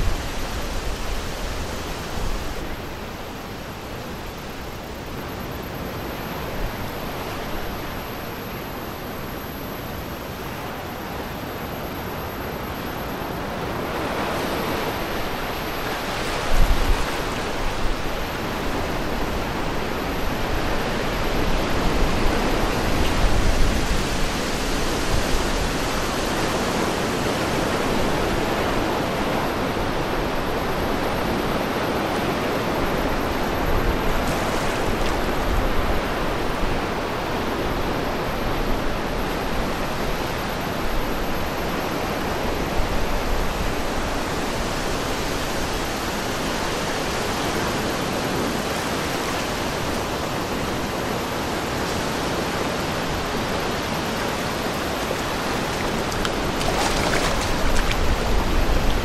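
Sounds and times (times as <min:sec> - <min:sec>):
wind rushing over microphone: 0:00.0 - 0:03.6, 0:12.3 - 0:59.0.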